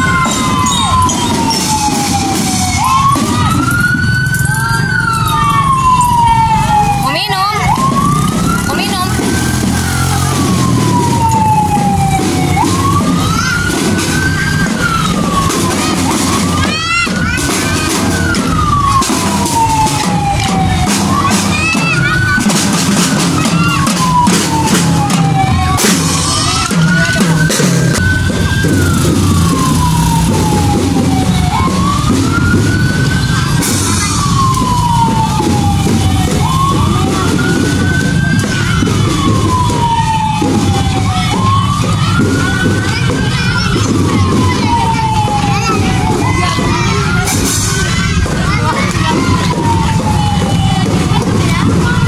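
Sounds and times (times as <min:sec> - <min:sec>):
siren wailing: 0:00.0 - 0:52.0.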